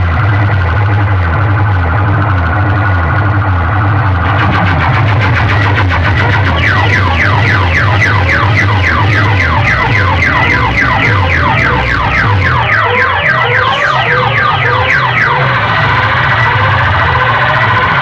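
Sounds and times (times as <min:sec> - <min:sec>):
electronic siren-like whoops: 0:00.0 - 0:18.0
pulsing bass beat: 0:00.0 - 0:18.0
steady electronic tones: 0:00.0 - 0:18.0.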